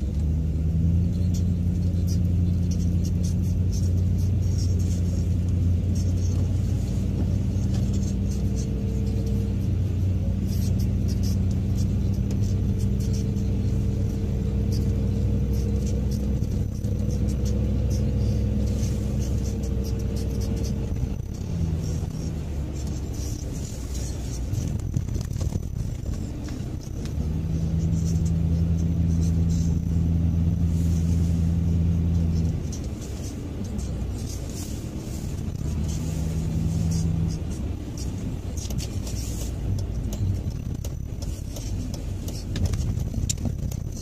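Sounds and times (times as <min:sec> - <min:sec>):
car engine hum: 0:00.0 - 0:44.0
tyre and road rumble: 0:00.0 - 0:44.0.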